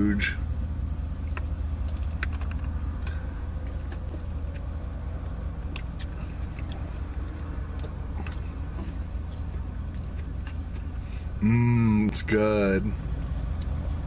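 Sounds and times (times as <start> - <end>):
car cabin hum: 0.0 - 14.0.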